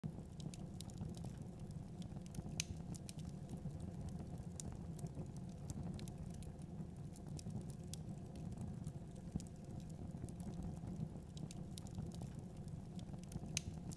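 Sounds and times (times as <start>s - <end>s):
low rumble of flames: 0.0s - 13.9s
fire popping and snapping: 0.1s - 13.9s.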